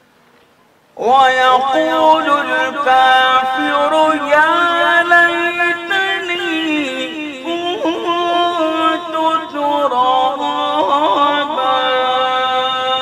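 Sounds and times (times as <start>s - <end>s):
man chanting melodically: 1.0s - 13.0s.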